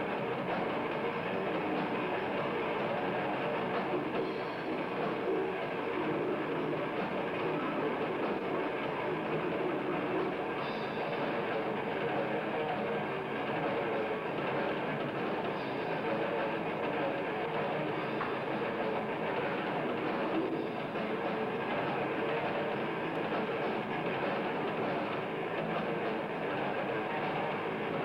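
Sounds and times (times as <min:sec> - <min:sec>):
death metal band playing live: 0:00.0 - 0:28.0.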